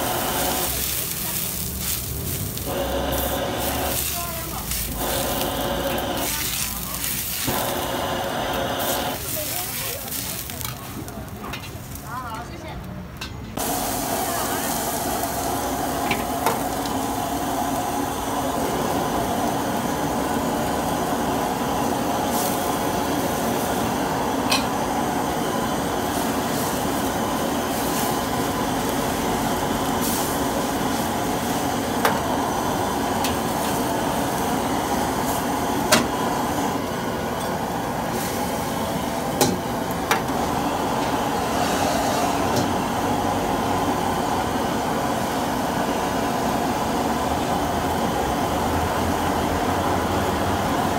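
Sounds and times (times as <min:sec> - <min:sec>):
gas wok burner roaring: 0:00.0 - 0:50.9.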